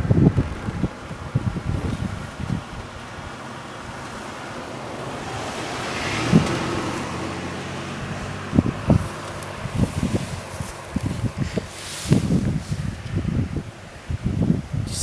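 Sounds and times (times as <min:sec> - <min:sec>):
wind thumps on microphone: 0:00.0 - 0:04.2, 0:05.8 - 0:15.0
car passing by: 0:00.6 - 0:13.3.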